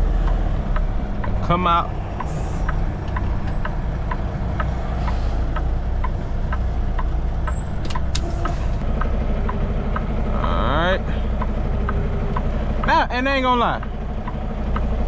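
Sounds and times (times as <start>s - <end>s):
truck diesel engine running: 0.0s - 15.0s
light ticking: 0.2s - 10.4s, 11.1s - 13.0s, 13.8s - 15.0s.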